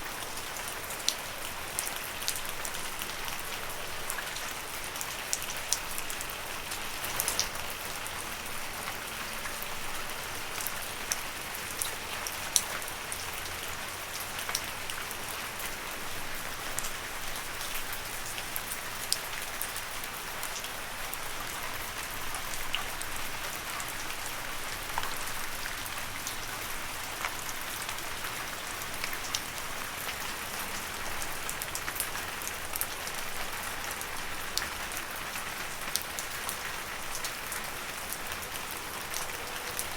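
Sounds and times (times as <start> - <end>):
gentle rain on leaves: 0.0 - 39.9.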